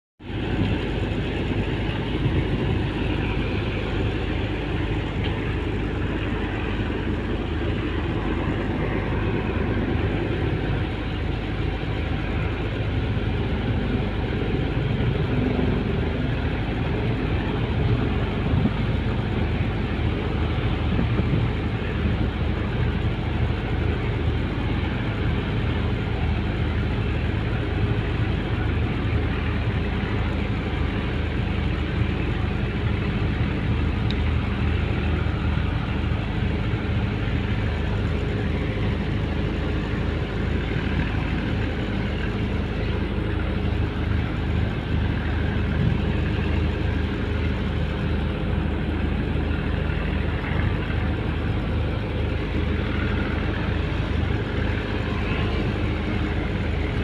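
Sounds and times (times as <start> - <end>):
boat engine rumbling: 0.2 - 57.0.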